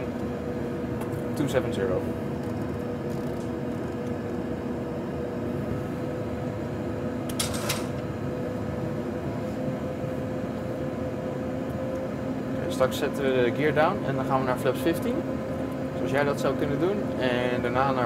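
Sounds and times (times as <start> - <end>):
cockpit drone: 0.0 - 18.0.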